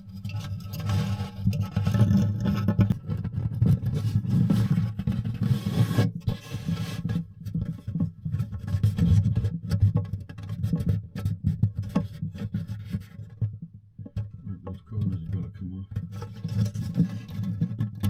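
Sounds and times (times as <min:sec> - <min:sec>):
hands scraping acoustic guitar body: 0:00.0 - 0:18.0.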